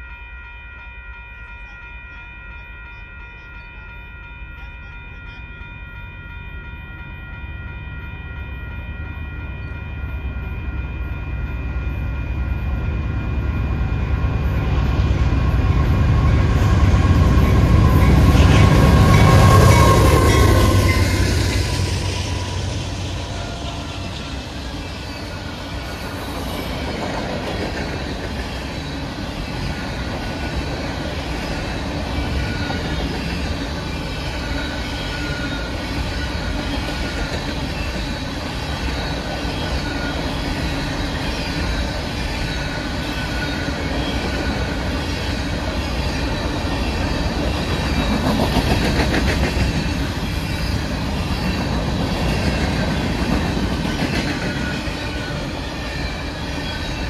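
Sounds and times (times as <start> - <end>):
steel wheels rolling on rails: 3.3 - 57.0.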